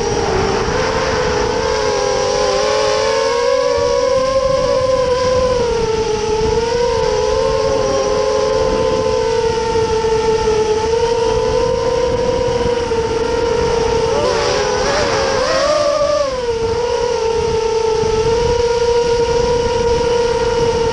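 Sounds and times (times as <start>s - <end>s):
drone motors whining: 0.0s - 20.9s
wind rush on microphone: 0.0s - 20.9s.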